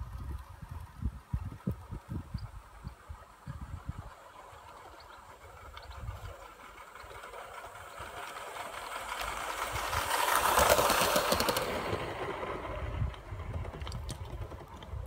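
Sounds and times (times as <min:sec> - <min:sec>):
model train rumbling past: 0:00.0 - 0:15.0.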